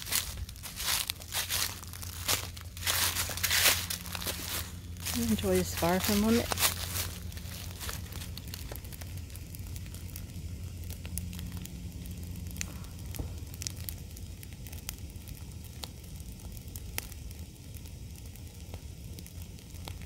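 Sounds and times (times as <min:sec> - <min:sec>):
brush fire crackling and popping: 0:00.0 - 0:20.0
low fire rumble: 0:00.0 - 0:20.0.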